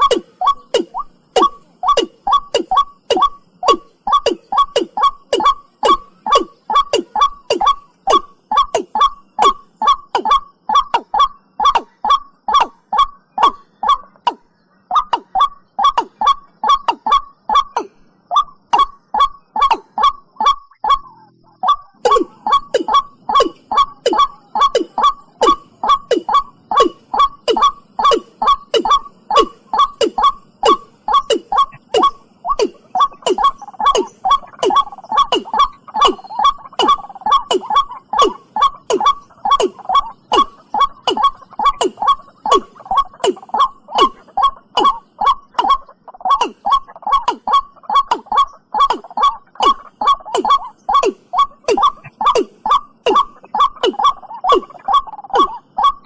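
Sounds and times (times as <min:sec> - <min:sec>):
watercock calling: 0:00.0 - 0:56.0.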